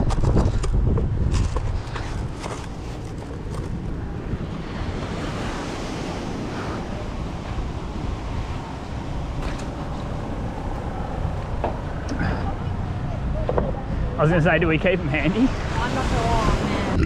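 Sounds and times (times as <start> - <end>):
wind buffeting microphone: 0.0 - 17.0
ocean surf washing on beach: 1.8 - 17.0.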